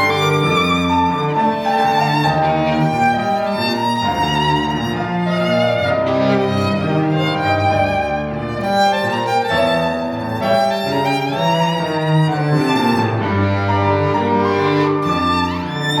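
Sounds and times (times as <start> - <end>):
held cello notes: 0.0 - 16.0
violin playing with vibrato: 0.0 - 16.0.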